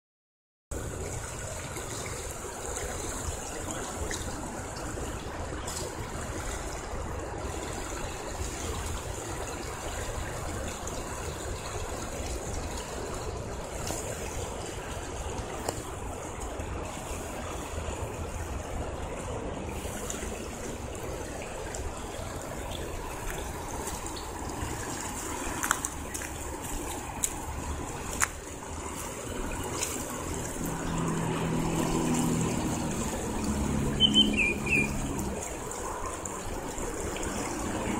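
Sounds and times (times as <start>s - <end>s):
river water rushing: 0.8s - 37.9s.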